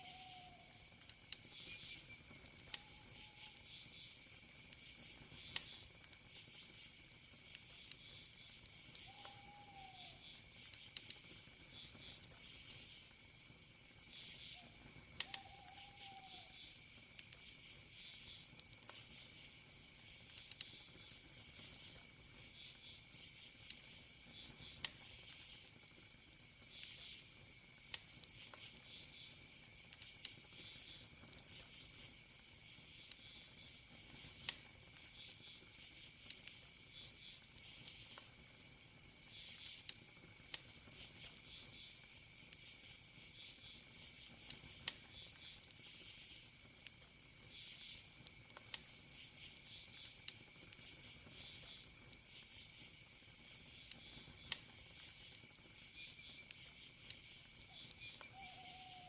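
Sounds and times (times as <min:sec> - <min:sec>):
campfire crackling and popping: 0:00.0 - 0:59.0
crickets chirping: 0:00.0 - 0:59.0
high insect trill: 0:00.0 - 0:59.0.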